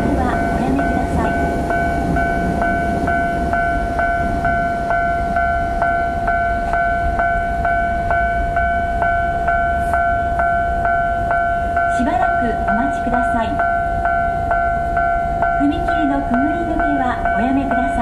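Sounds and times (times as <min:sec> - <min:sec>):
level crossing warning bell: 0:00.0 - 0:18.0.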